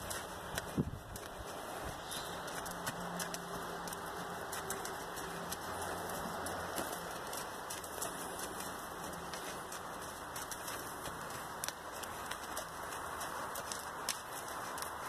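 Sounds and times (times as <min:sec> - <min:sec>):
hooves crunching on sand: 0:00.0 - 0:15.0.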